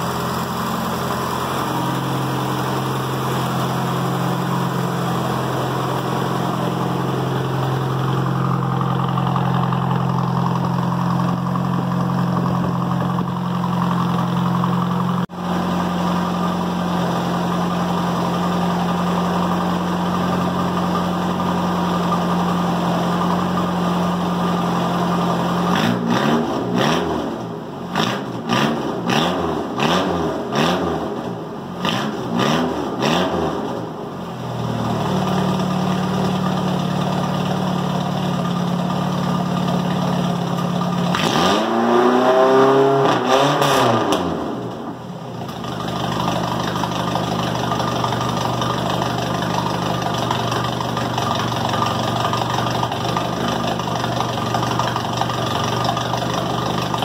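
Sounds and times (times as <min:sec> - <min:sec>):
suv engine idling and revving: 0:00.0 - 0:57.0.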